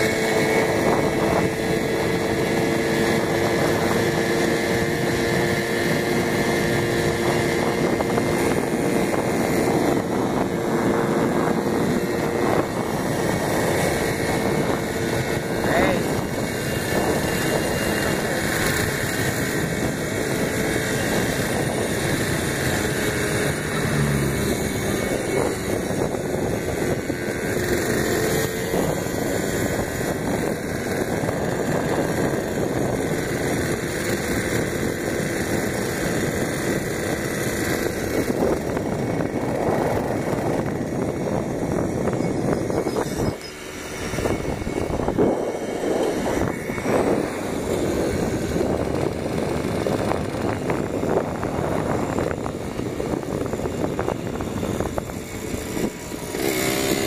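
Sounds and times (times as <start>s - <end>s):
moped engine: 0.0s - 57.0s
wind on microphone: 0.0s - 57.0s.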